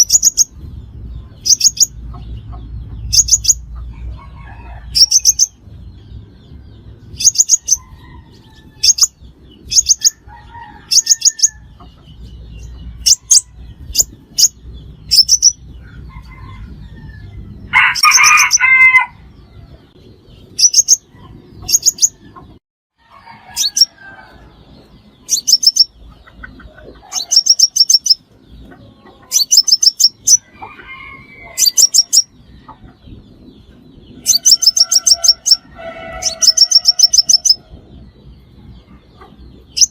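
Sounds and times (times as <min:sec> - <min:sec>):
bird high rapid chirps: 0:00.0 - 0:03.8, 0:04.9 - 0:06.3, 0:07.0 - 0:10.3, 0:10.9 - 0:15.8, 0:17.9 - 0:22.6, 0:24.8 - 0:30.7, 0:31.4 - 0:39.9.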